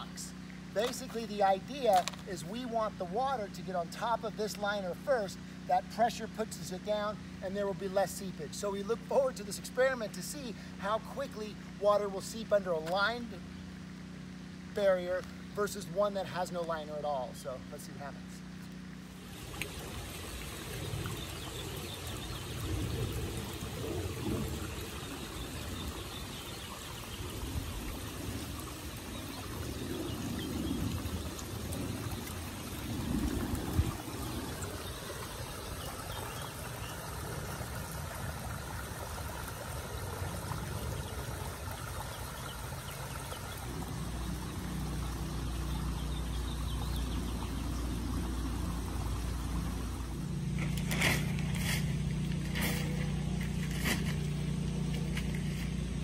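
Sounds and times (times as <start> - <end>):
water trickling over gravel: 0.0 - 7.1, 7.7 - 17.1, 18.6 - 56.0.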